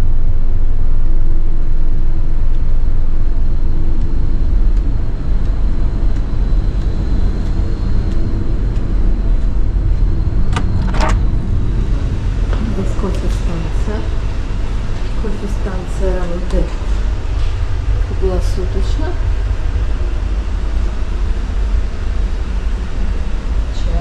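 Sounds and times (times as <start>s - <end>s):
loud low rumbling on a ship: 0.0s - 24.0s.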